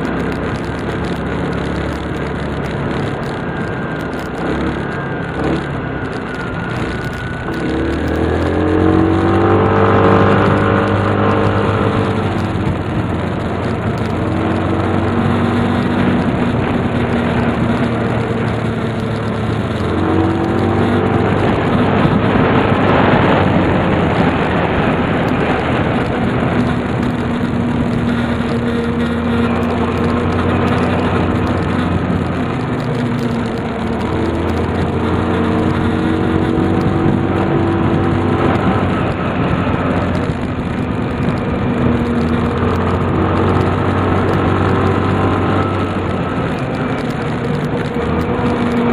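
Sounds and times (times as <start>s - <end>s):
engine running and revving: 0.0s - 48.9s.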